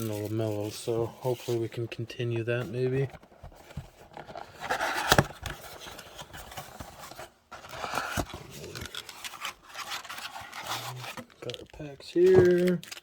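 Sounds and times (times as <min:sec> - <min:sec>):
cardboard and wrapper rustling: 0:00.0 - 0:13.0.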